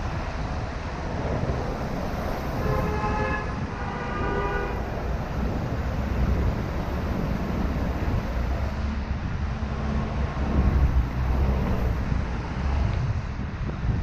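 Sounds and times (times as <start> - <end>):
city traffic: 0.0 - 14.0
wind rumble on microphone: 0.0 - 14.0.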